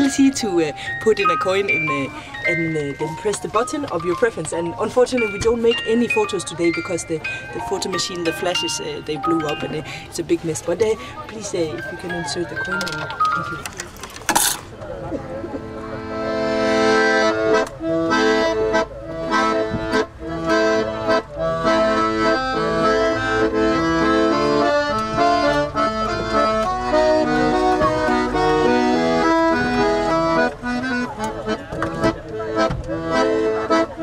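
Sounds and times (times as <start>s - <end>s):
accordion music with rhythmic beat: 0.0s - 34.0s.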